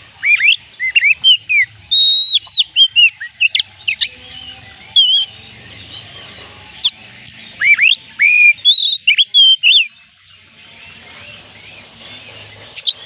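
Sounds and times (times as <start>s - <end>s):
bird singing whistled notes: 0.0s - 13.0s.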